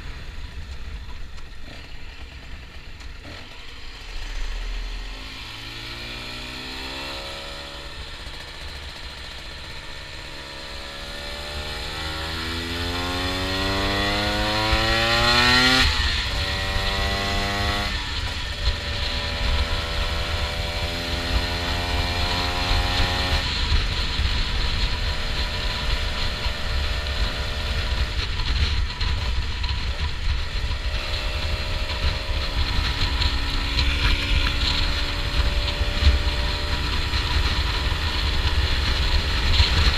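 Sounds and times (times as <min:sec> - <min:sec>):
low wind rumble: 0:00.0 - 0:39.9
motorcycle engine revving: 0:00.0 - 0:39.9.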